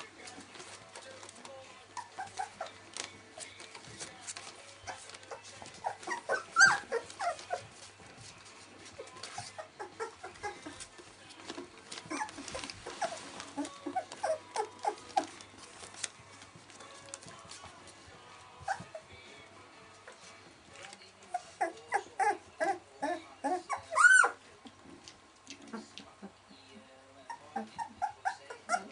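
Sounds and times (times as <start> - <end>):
puppies whimpering and squeaking: 0.0 - 17.7, 18.5 - 19.4, 20.0 - 24.5, 25.5 - 28.9.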